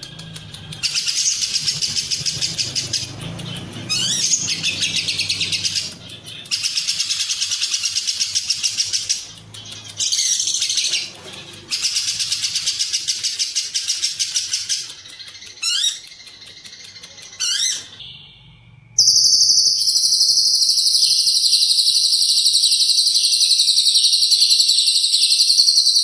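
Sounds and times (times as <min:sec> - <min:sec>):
bird chattering trill: 0:00.0 - 0:18.0, 0:19.0 - 0:26.0.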